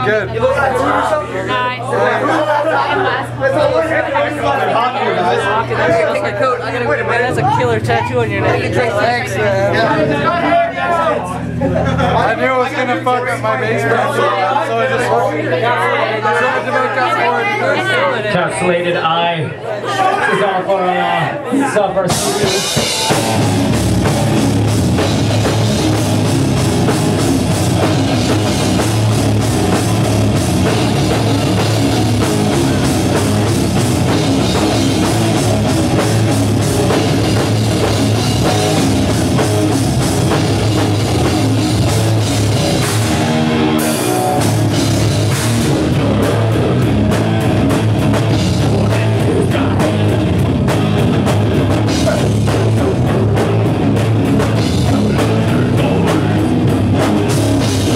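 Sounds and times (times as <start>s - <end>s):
metal band playing: 0.0s - 19.1s, 21.4s - 57.9s.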